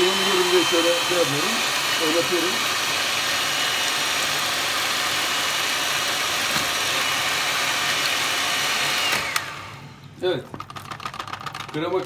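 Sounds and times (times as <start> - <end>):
electric hand mixer whisking: 0.0 - 10.0.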